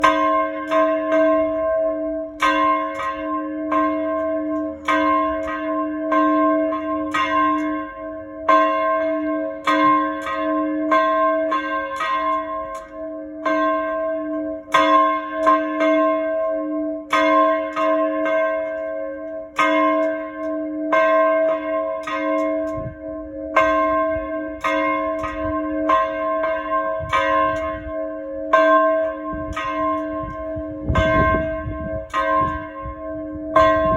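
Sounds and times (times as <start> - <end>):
church bell ringing: 0.0 - 33.9.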